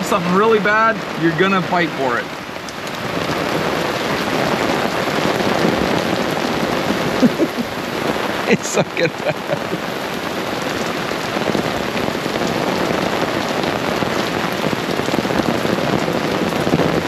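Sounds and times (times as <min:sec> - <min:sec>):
heavy rain on patio: 0:00.0 - 0:17.0
rain on fabric umbrella: 0:00.0 - 0:17.0.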